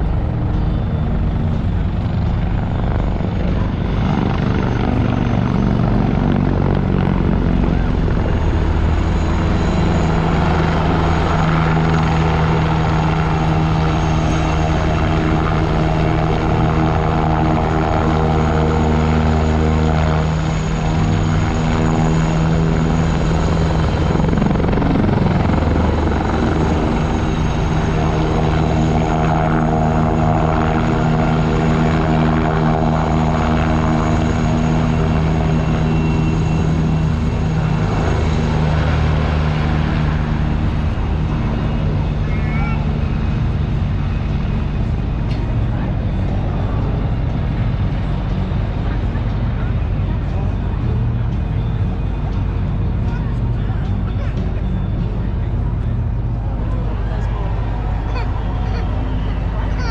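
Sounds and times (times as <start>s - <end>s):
helicopter flying overhead: 0.0s - 59.9s.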